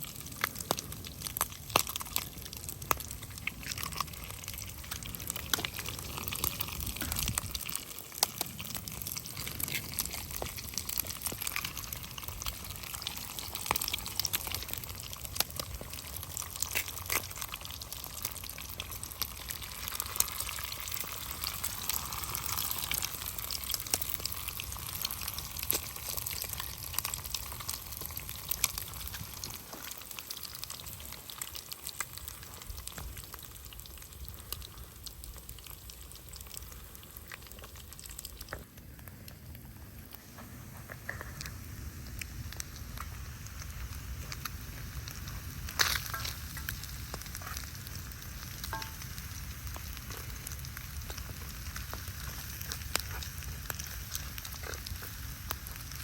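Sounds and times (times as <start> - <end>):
food sizzling in a pan: 0.0 - 39.1, 40.1 - 56.0
wood fire crackling: 0.0 - 56.0.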